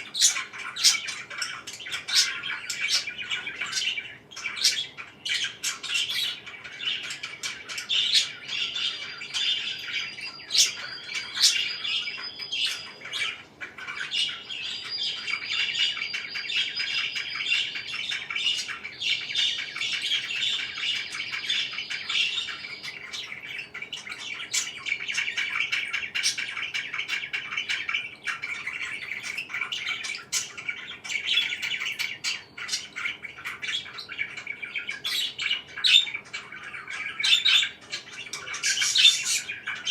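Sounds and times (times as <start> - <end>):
parakeets chirping: 0.0 - 39.9.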